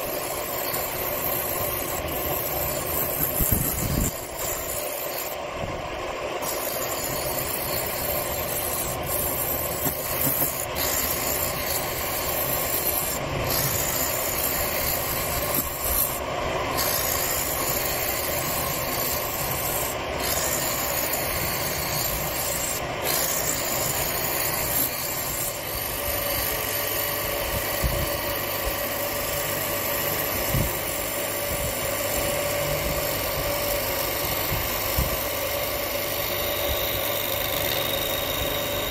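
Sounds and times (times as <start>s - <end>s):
lathe tool scraping wood: 0.0s - 5.5s, 6.2s - 38.9s
lathe motor hum: 0.0s - 38.9s.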